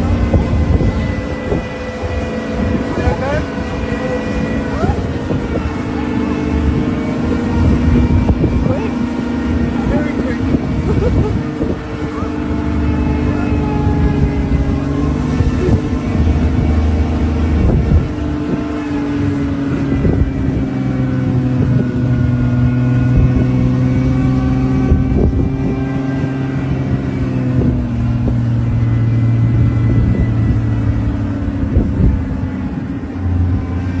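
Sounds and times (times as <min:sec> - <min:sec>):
jeep engine running: 0:00.0 - 0:34.0.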